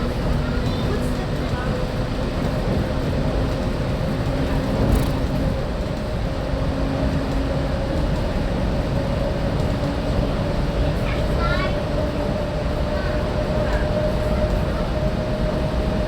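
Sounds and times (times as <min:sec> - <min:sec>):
monorail rumble on beamway: 0:00.0 - 0:16.0.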